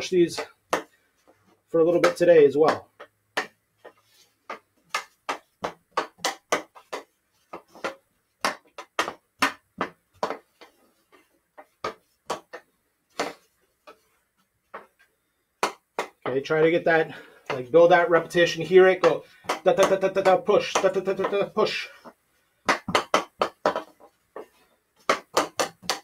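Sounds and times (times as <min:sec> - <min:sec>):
hockey stick tapping ball: 0:00.3 - 0:14.1, 0:14.7 - 0:16.8, 0:17.4 - 0:26.0.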